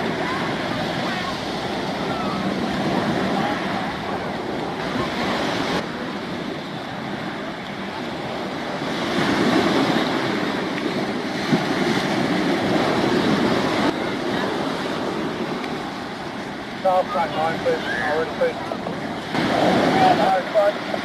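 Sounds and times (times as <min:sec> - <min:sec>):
waves washing: 0:00.0 - 0:21.0
wind buffeting microphone: 0:00.0 - 0:21.0.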